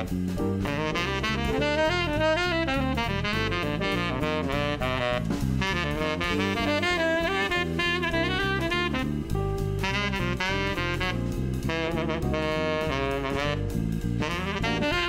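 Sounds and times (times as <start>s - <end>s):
jazz lead melody: 0.0s - 15.0s
steady drum beat: 0.0s - 15.0s
walking bass line: 0.0s - 15.0s.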